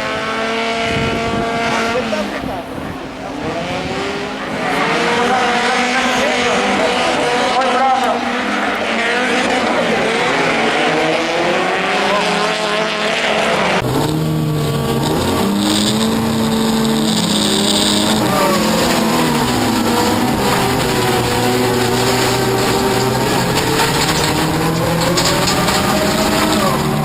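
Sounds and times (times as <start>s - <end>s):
racing car engine revving: 0.0s - 27.0s
road and tyre noise: 0.0s - 27.0s.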